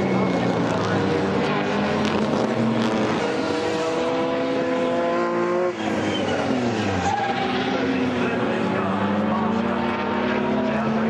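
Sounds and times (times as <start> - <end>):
race cars passing at full throttle: 0.0 - 11.0.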